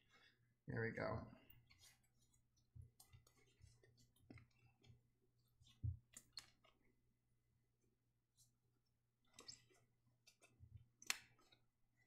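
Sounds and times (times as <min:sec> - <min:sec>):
hands kneading dough: 0:01.4 - 0:12.0.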